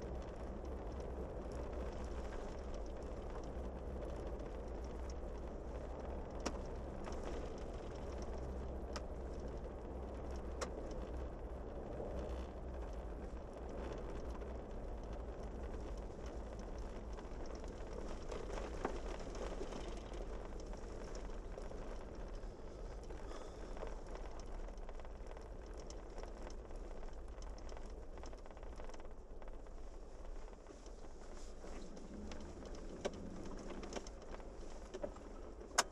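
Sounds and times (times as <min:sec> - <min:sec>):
engine and tyre rumble: 0:00.0 - 0:35.9
gravel road hiss: 0:00.0 - 0:35.9.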